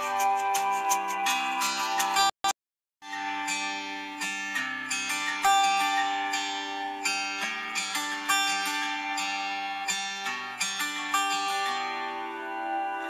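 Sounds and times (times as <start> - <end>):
plucked-string melody: 0.0 - 2.4, 3.0 - 13.0.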